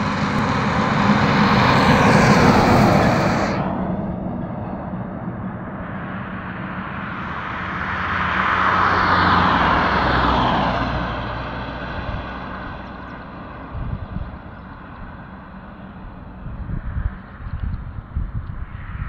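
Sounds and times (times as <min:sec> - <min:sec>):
vehicle passing on highway: 0:00.0 - 0:19.0.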